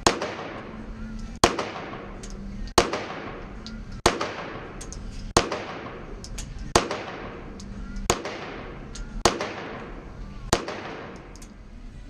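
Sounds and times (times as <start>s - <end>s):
pistol shots ringing indoors: 0.0s - 0.8s, 1.4s - 11.6s
faint distant gunshots: 0.0s - 11.3s.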